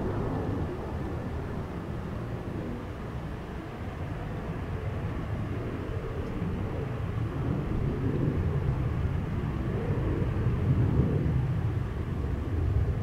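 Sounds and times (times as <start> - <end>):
distant jet engines rumbling: 0.0 - 13.0.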